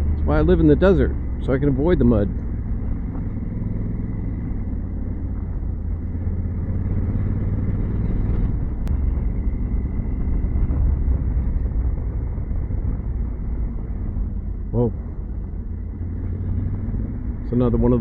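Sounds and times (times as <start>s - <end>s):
motorcycle engine rumble: 0.0s - 18.0s
road noise: 0.0s - 18.0s
wind noise: 2.4s - 18.0s.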